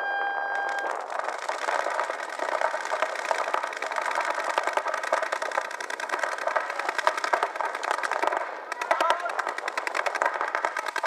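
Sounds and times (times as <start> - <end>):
paintball markers firing rapidly: 0.6 - 11.0.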